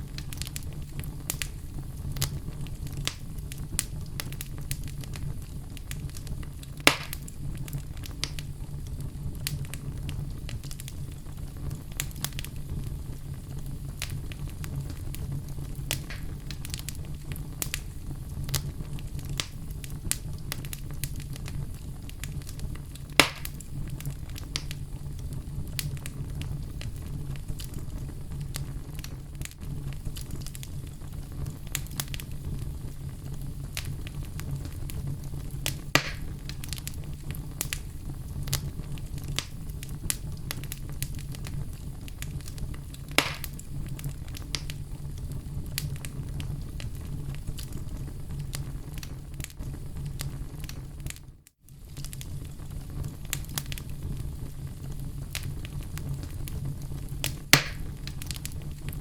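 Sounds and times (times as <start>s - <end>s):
fire rumbling and crackling: 0.0s - 59.0s
loud fire pops: 0.0s - 59.0s.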